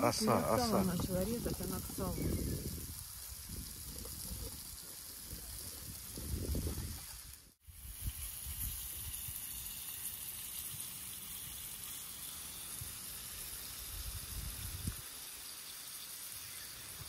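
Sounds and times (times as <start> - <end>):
fat sizzling in a pan: 0.0 - 17.0.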